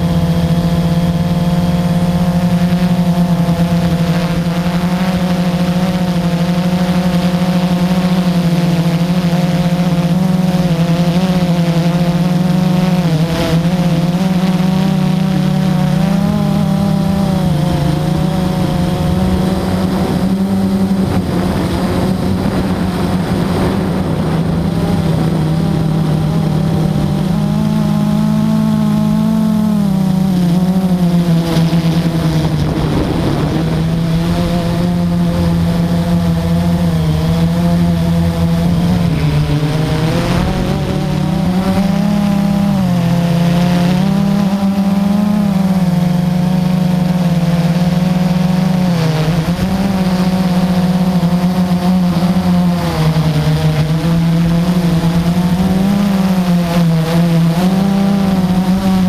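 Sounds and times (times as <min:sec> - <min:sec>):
drone propellers humming: 0:00.0 - 0:59.0.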